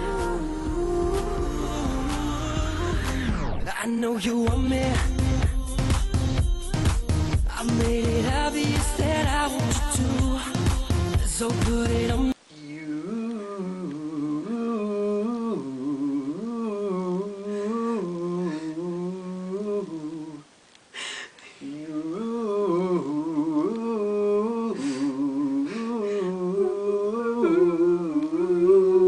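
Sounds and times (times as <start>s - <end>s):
person humming a tune: 0.0s - 3.4s, 4.5s - 20.5s, 21.6s - 29.0s.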